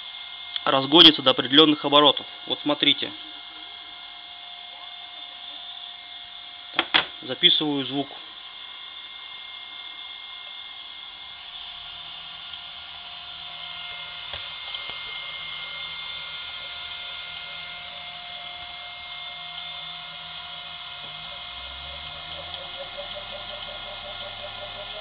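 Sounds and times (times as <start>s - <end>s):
cooling fan whine: 0.0s - 25.0s
electric motor humming: 0.0s - 25.0s.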